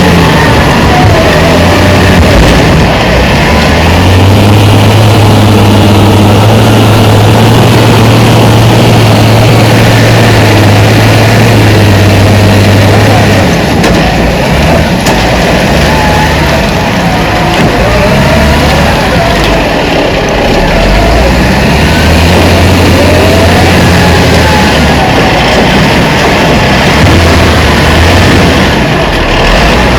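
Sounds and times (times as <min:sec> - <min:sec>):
heavy diesel engine droning: 0:00.0 - 0:29.9.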